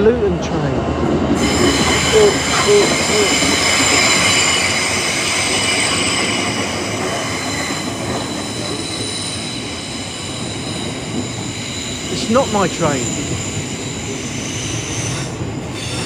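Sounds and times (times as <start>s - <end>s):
train rumble: 0.0s - 16.0s
train wheels squealing: 1.4s - 16.0s.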